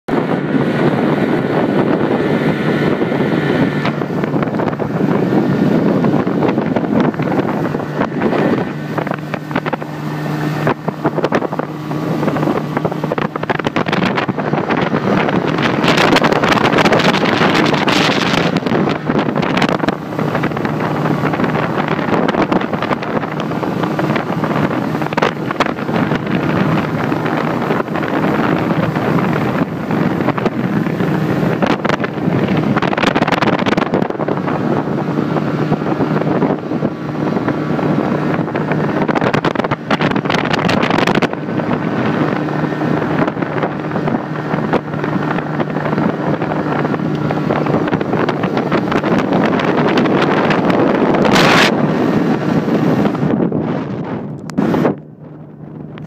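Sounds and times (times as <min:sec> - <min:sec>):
outboard motor droning: 0:00.1 - 0:56.0
water rushing past hull: 0:00.1 - 0:56.0
wind buffeting microphone: 0:00.1 - 0:56.0.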